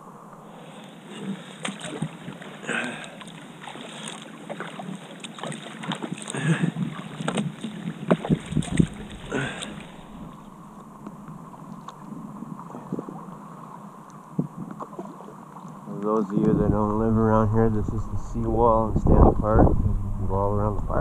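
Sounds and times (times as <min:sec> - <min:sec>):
paddle blades splashing water: 0:00.0 - 0:17.1.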